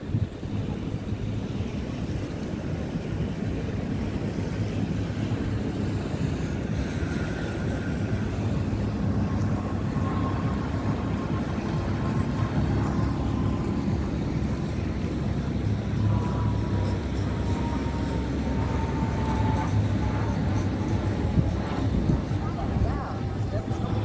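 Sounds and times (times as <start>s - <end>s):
boat engines droning: 0.0s - 24.0s
faint thin whine: 0.0s - 24.0s
wind rumbling on microphone: 0.0s - 24.0s.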